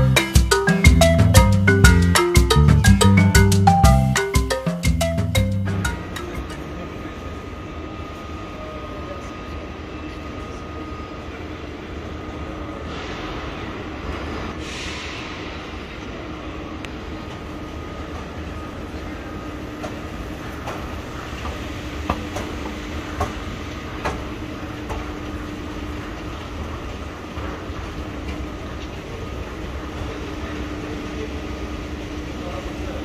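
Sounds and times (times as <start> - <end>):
constant hum: 0.0 - 33.0.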